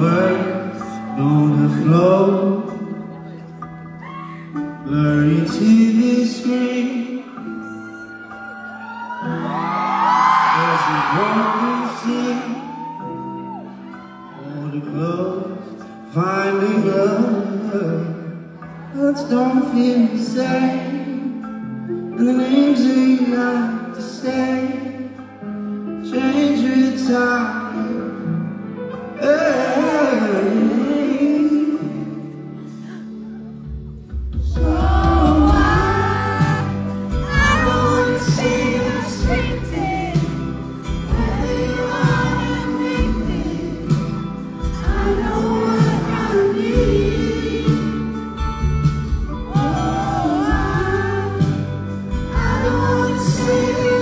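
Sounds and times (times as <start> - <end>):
man singing lead vocal: 0.0 - 3.5, 4.5 - 7.9, 10.4 - 13.2, 14.3 - 33.6, 34.4 - 48.6, 49.3 - 54.0
live pop ballad band: 0.0 - 54.0.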